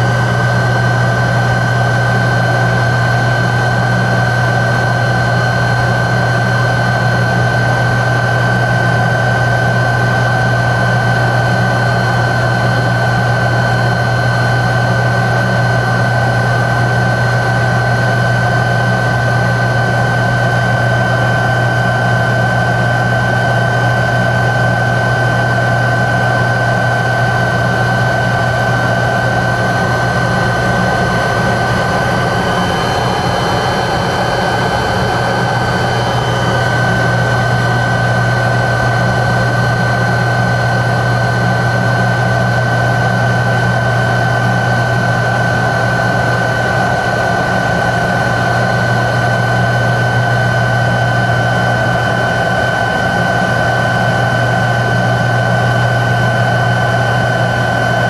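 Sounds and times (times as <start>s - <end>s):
jet engines heard inside cabin: 0.0s - 58.0s.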